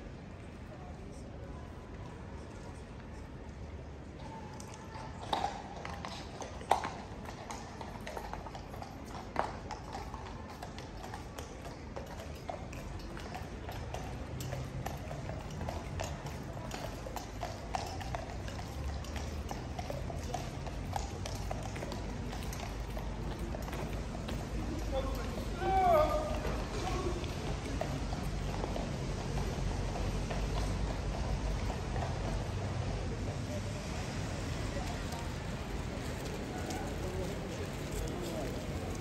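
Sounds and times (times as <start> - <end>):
horse hooves clip-clopping on paving: 4.2 - 39.0.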